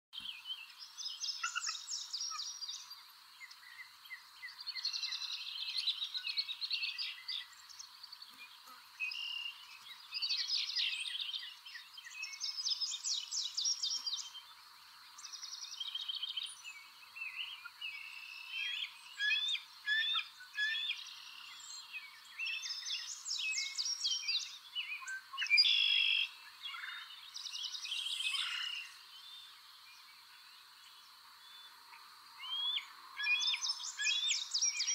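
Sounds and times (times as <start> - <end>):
birds singing and calling: 0.2 - 34.9.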